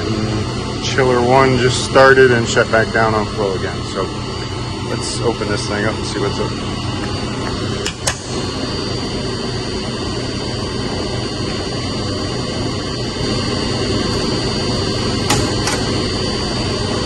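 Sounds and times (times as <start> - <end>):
pump motor droning: 0.0 - 17.0.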